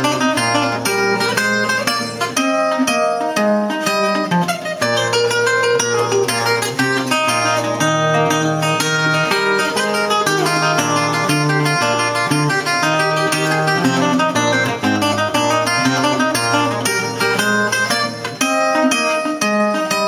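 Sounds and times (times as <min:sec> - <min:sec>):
fingerstyle resonator guitar: 0:00.0 - 0:20.0.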